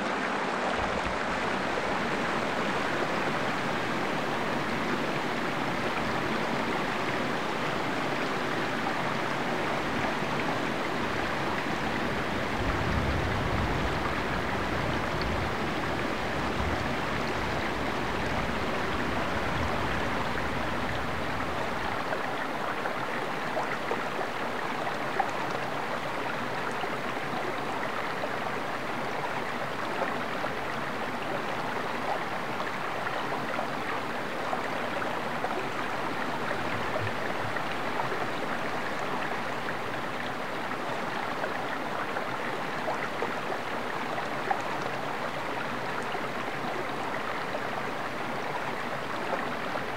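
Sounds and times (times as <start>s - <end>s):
stream water trickling over riffles: 0.0s - 49.9s.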